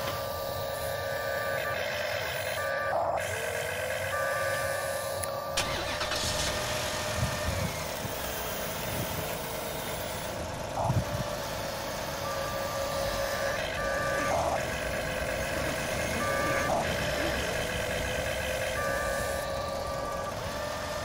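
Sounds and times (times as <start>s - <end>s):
electric motors and gears whining: 0.0s - 21.0s.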